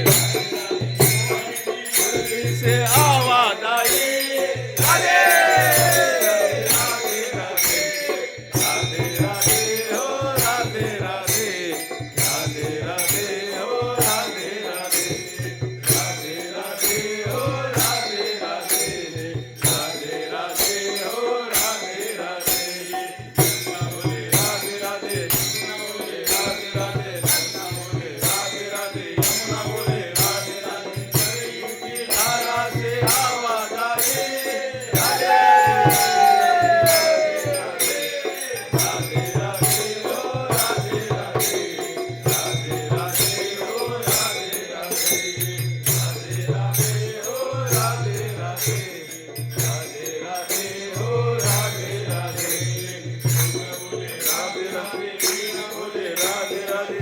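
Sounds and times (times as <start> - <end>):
percussion beat: 0.0 - 57.0.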